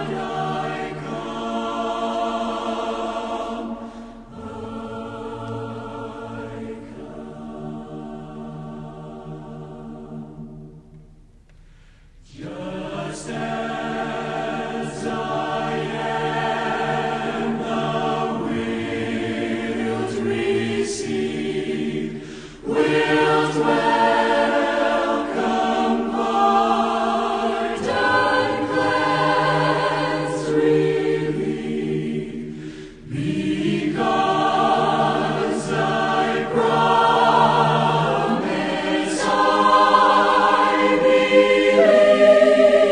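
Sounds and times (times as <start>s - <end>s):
choir singing a hymn: 0.0s - 11.0s, 12.2s - 42.9s.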